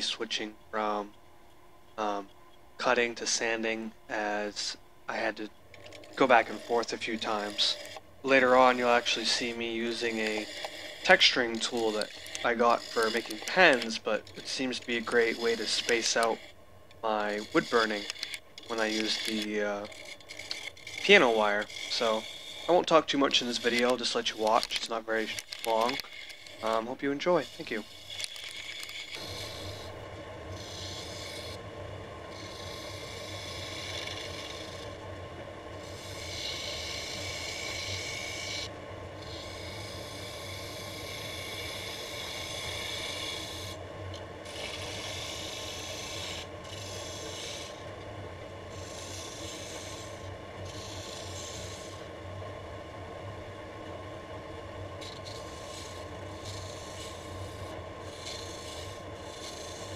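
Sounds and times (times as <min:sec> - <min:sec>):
gouge cutting wood hiss: 0:02.0 - 0:05.5, 0:06.1 - 0:31.6, 0:32.3 - 0:35.0, 0:35.8 - 0:43.8, 0:44.4 - 0:47.9, 0:48.7 - 0:52.1, 0:55.0 - 0:59.9
wood lathe humming: 0:02.8 - 0:53.1, 0:53.8 - 0:59.9.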